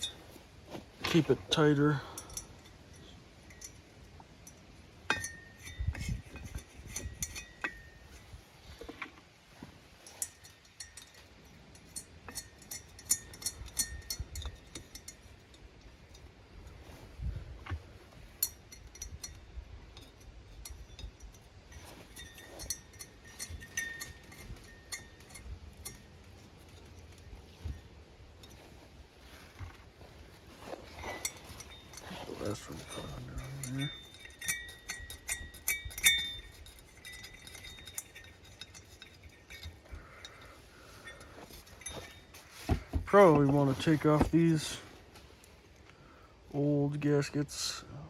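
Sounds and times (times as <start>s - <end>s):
metallic ringing: 0.0s - 9.0s, 9.6s - 47.8s
small steel parts clinking: 0.0s - 9.3s, 9.9s - 47.8s.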